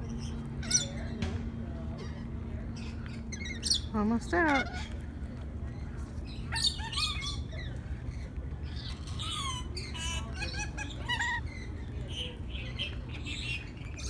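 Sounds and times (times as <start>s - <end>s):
lorikeets squawking: 0.0s - 1.1s, 2.0s - 5.0s, 5.7s - 14.0s.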